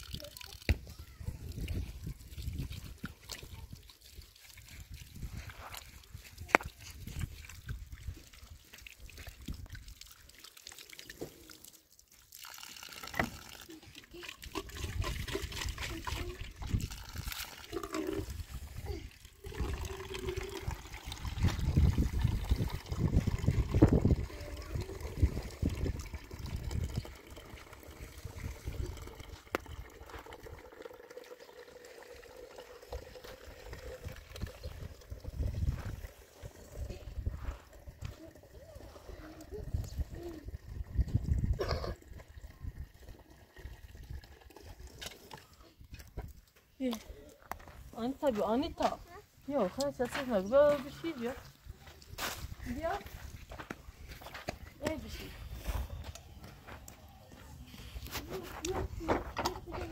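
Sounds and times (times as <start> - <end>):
water running into plastic jug: 0.0 - 56.2, 58.0 - 59.9
water trickling over hands: 0.0 - 59.1.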